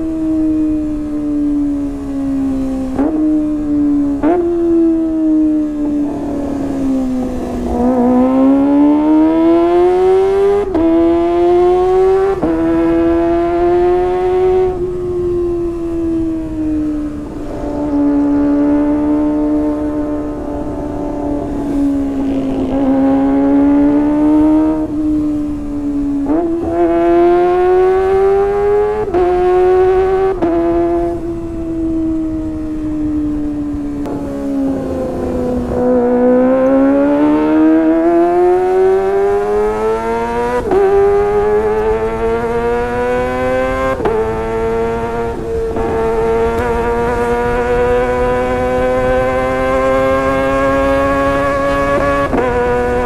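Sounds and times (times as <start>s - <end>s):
motorcycle engine revving high: 0.0s - 53.0s.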